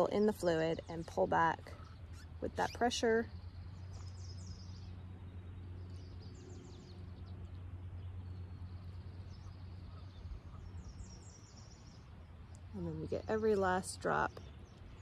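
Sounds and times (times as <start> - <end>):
faint birdsong chirps: 0.0 - 15.0
low background hum: 0.0 - 15.0.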